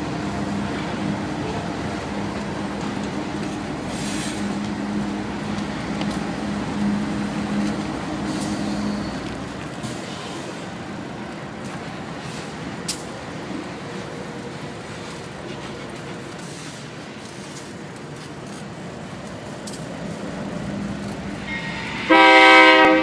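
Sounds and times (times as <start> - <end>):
locomotive engine hum: 0.0 - 23.0
train running noise: 0.0 - 23.0.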